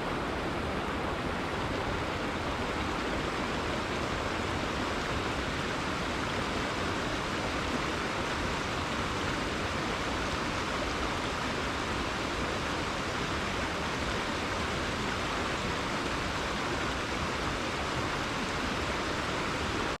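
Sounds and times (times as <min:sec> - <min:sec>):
river flowing over rocks: 0:00.0 - 0:20.0.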